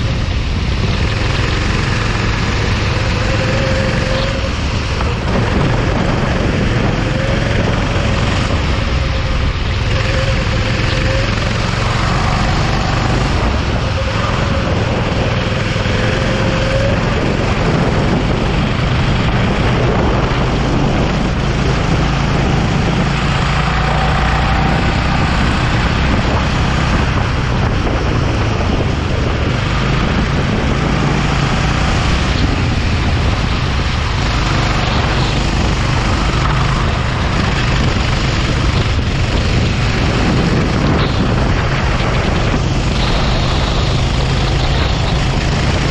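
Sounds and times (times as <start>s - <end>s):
go-kart engine running: 0.0s - 45.9s
steady rushing noise: 0.0s - 45.9s.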